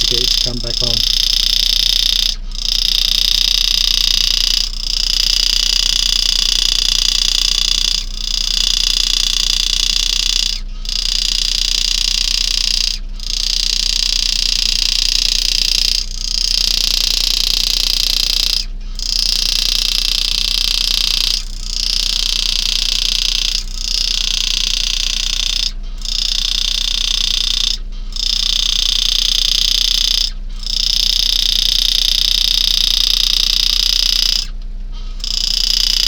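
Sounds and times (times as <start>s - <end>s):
engraving handpiece buzzing: 0.0s - 36.0s
low mains hum: 0.0s - 36.0s.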